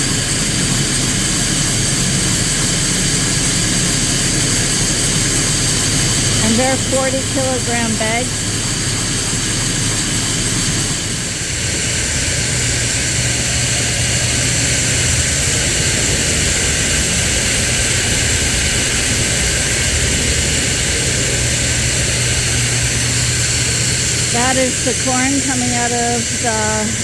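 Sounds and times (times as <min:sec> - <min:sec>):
feed mixer auger running: 0:00.0 - 0:27.0.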